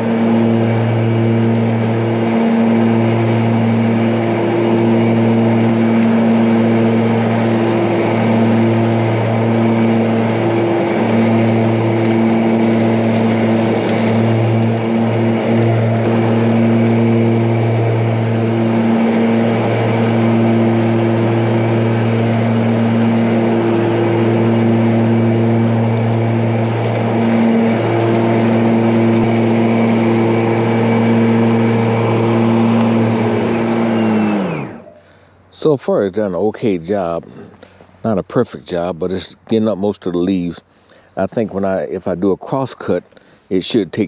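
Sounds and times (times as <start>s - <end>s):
electric mower humming: 0.0s - 44.0s.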